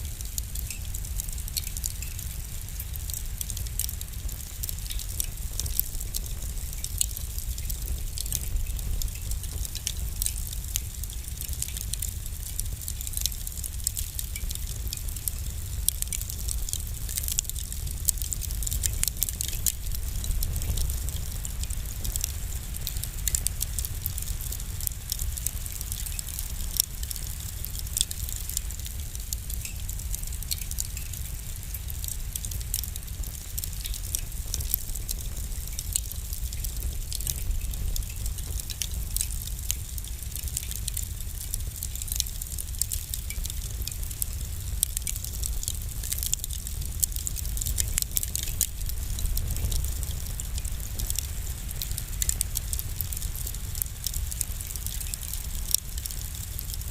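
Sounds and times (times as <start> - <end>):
low rumble of flames: 0.0 - 56.9
wood fire crackling and popping: 0.0 - 56.9.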